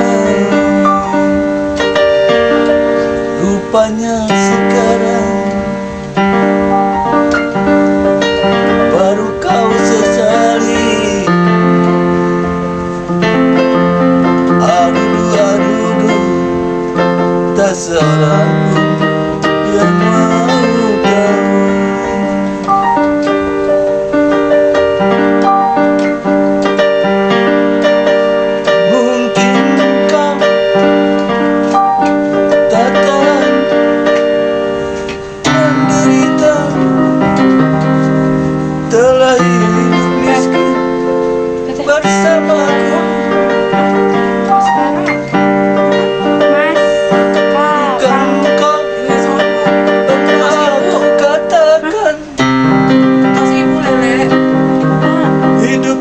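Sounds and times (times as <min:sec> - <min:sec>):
electronic keyboard melody: 0:00.0 - 0:56.0.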